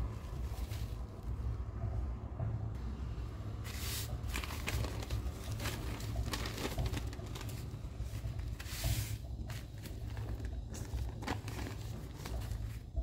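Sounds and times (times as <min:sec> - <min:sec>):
newspaper rustling and crinkling: 0:00.0 - 0:01.4, 0:03.6 - 0:13.0
steady low hum: 0:00.0 - 0:13.0.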